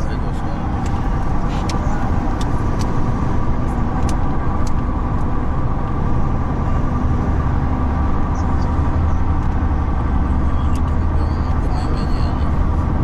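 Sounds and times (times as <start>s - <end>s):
bus road rumble: 0.0s - 13.0s.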